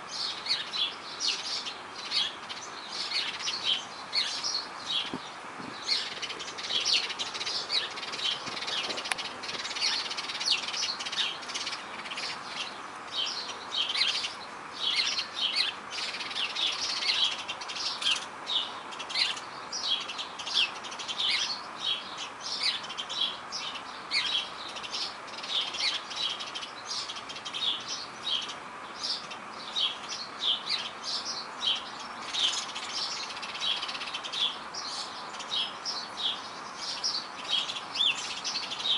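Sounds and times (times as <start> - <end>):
birds chirping: 0.0 - 38.9
outdoor background hum: 0.0 - 38.9.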